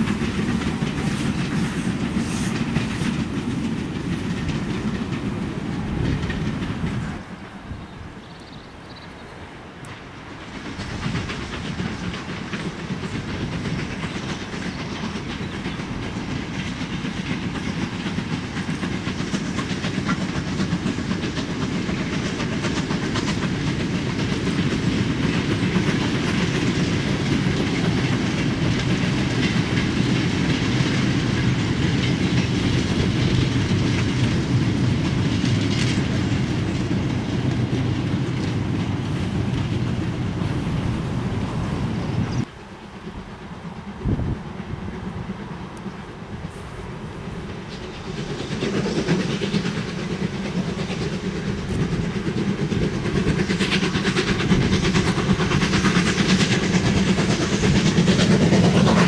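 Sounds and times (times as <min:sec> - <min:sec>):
train wheels clicking over rail joints: 0:00.0 - 0:59.0.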